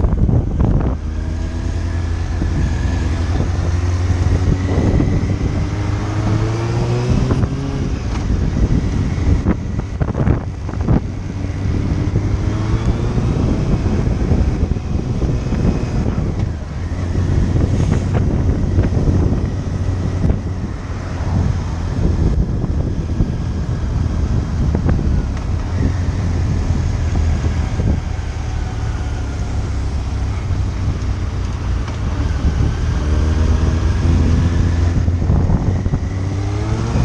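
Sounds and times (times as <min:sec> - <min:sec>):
motorcycle engine accelerating: 0:00.0 - 0:37.0
wind rushing over microphone: 0:00.0 - 0:37.0.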